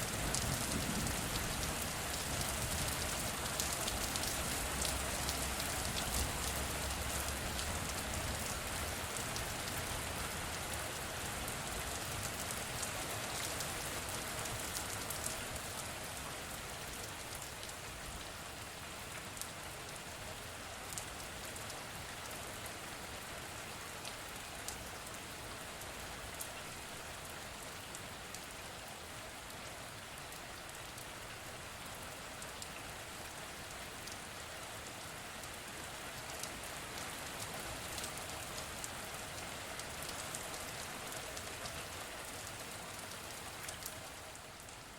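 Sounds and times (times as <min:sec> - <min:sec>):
rain falling: 0:00.0 - 0:44.9
raindrops pattering close by: 0:00.0 - 0:44.9.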